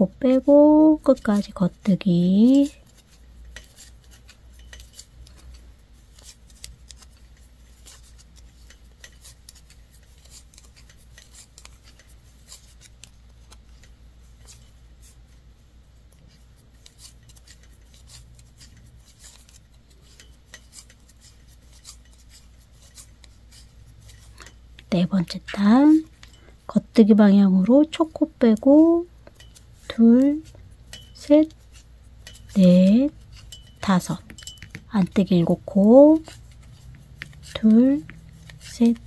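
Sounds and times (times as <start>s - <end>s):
wooden knitting needles clicking: 0.0s - 14.6s, 16.1s - 39.0s.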